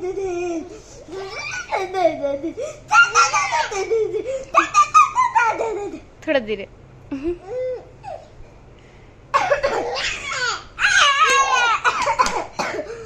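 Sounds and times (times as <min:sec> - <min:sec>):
young child laughing: 0:00.0 - 0:06.1, 0:07.1 - 0:08.3, 0:09.4 - 0:12.9.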